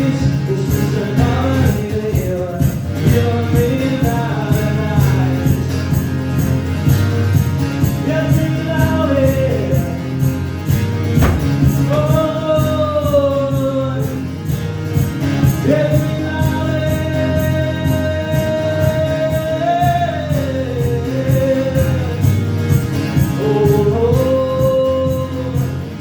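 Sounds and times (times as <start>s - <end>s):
man singing: 0.0s - 5.7s, 8.0s - 10.2s, 11.2s - 14.4s, 15.6s - 22.5s, 23.1s - 26.0s
strummed guitar: 0.0s - 26.0s.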